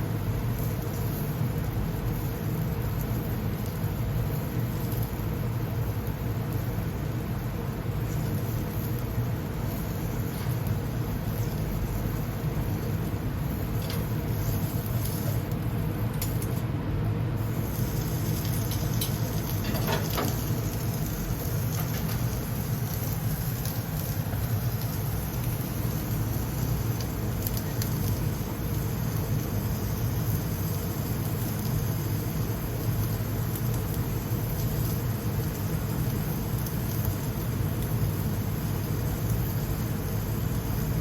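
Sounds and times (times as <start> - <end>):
grill low rumble: 0.0 - 41.0
patties sizzling and crackling on grill: 0.0 - 41.0.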